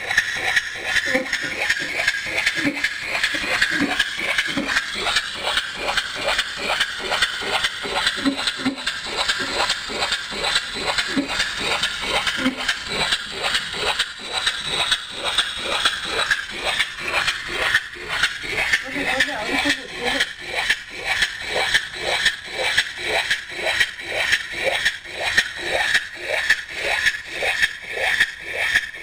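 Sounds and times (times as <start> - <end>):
small engine knocking rhythmically: 0.0 - 29.0.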